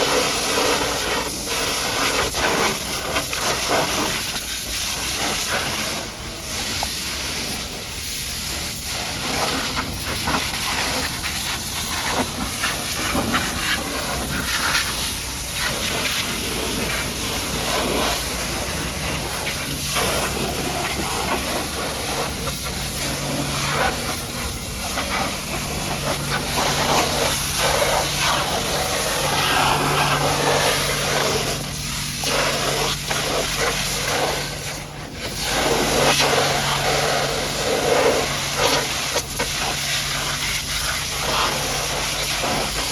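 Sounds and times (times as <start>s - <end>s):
high-pressure water jet spraying: 0.0s - 42.9s
steady low hum: 0.0s - 42.9s.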